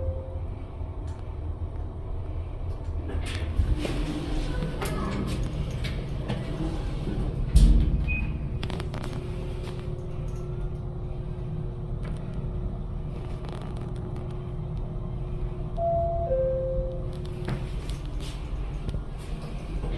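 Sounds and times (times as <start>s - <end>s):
elevator hum: 0.0s - 19.9s.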